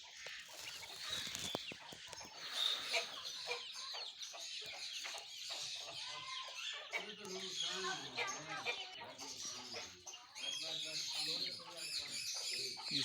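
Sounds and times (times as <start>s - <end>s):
birds chirping and peeping: 0.0s - 13.0s
chickens clucking: 0.0s - 13.0s.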